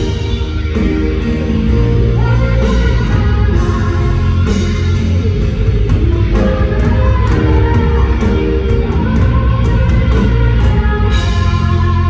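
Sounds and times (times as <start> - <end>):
distant rock band over pa: 0.0 - 12.0.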